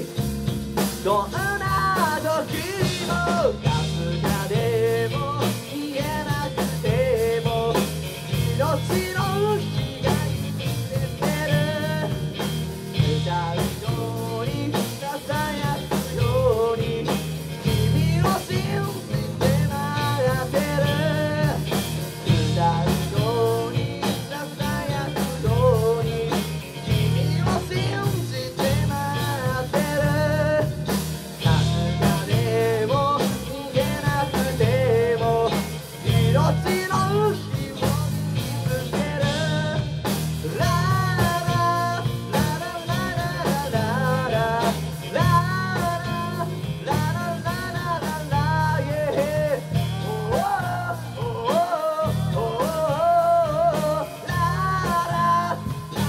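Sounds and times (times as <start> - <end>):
bass: 0.0 - 56.0
drum kit: 0.0 - 56.0
electric guitars: 0.0 - 56.0
person singing: 0.8 - 56.0.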